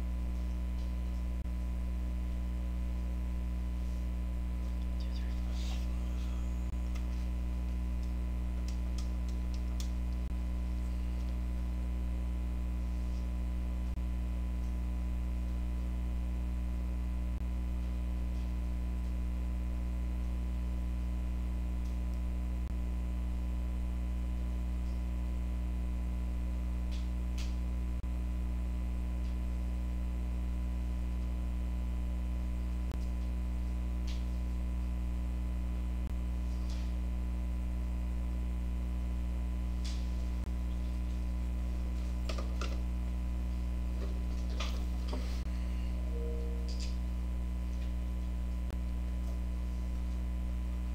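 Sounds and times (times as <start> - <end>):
electrical mains hum: 0.0 - 50.9.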